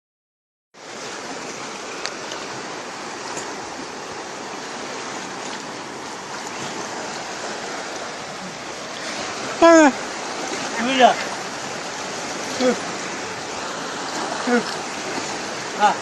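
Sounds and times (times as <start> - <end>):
waves washing at the shore: 0.8 - 16.0.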